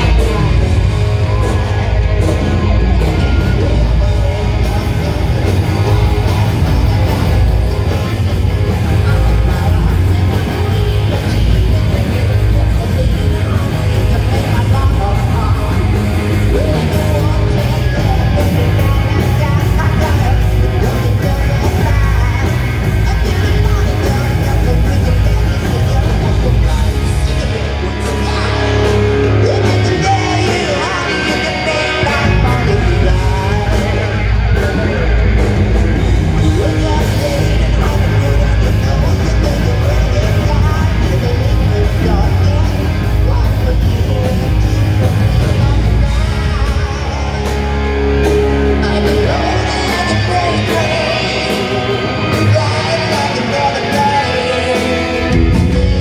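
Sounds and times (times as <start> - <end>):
bass guitar: 0.0 - 56.0
drums: 0.0 - 56.0
electric guitars: 0.0 - 56.0
male singer: 0.0 - 56.0.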